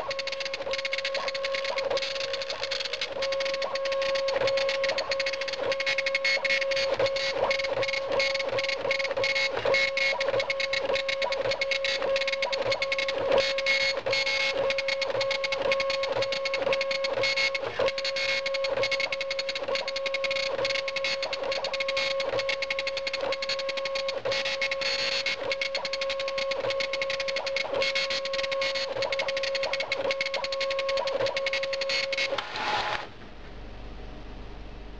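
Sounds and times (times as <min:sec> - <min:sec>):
dot matrix printer printing: 0:00.0 - 0:33.1.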